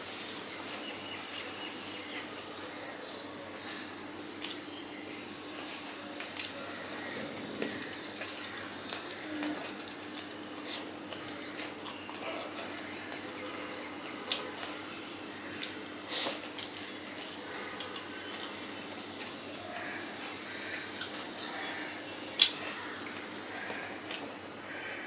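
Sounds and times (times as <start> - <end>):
eating sounds: 0.2 - 25.0.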